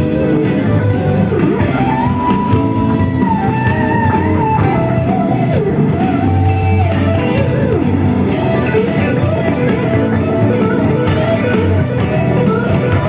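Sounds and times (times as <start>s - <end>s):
electric guitar lead melody: 0.0s - 13.0s
instrumental rock band: 0.0s - 13.0s.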